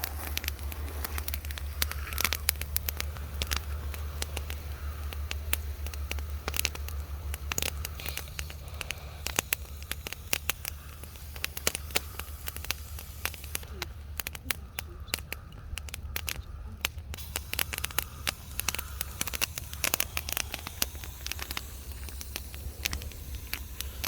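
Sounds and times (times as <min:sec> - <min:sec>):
bonfire crackling and popping: 0:00.0 - 0:24.0
low rumble: 0:00.0 - 0:24.0.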